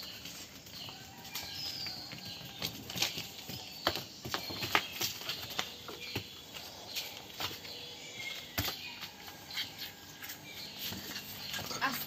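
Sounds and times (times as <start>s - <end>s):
hoof knocks and scuffs: 0.0s - 12.0s.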